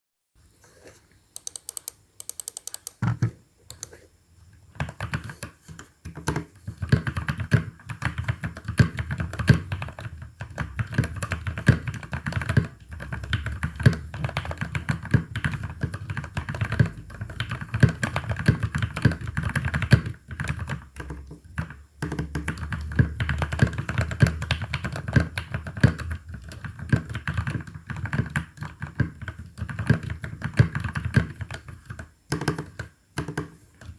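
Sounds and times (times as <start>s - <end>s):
typing on mechanical keyboard: 1.4s - 3.0s, 4.8s - 33.9s.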